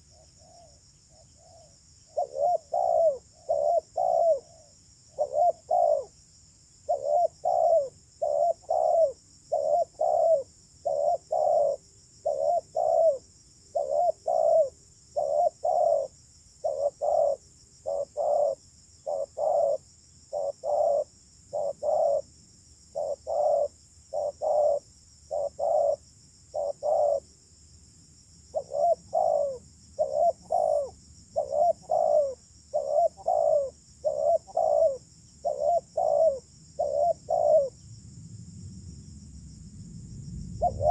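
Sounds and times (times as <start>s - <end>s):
dove cooing: 0.0s - 6.2s, 6.9s - 22.3s, 22.9s - 27.3s, 28.5s - 37.8s, 40.6s - 40.9s
steady high-pitched hiss: 0.0s - 40.9s.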